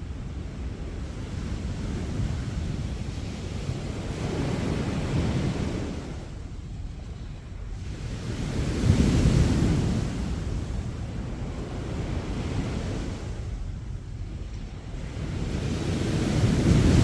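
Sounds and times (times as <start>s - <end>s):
sea waves breaking on beach: 0.0s - 6.5s, 7.8s - 13.6s, 14.7s - 17.0s.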